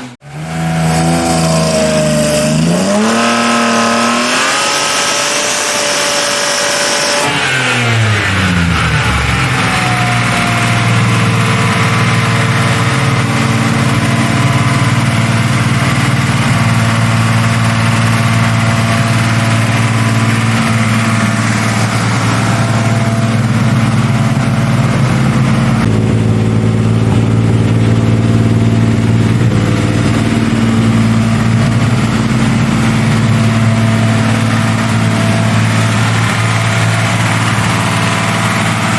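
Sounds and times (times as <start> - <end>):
car engine revving then idling: 0.0 - 38.9.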